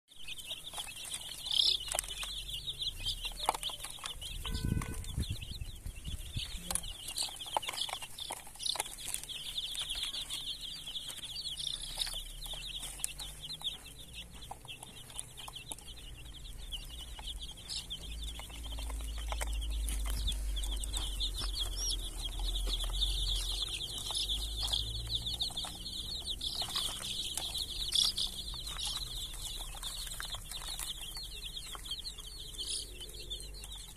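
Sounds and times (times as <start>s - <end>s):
chicks peeping: 0.1s - 33.9s
hen clucking: 0.3s - 33.9s.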